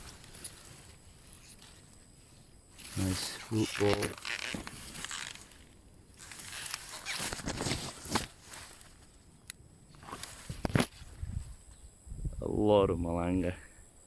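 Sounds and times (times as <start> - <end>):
footsteps rustling through vegetation: 0.0 - 11.7.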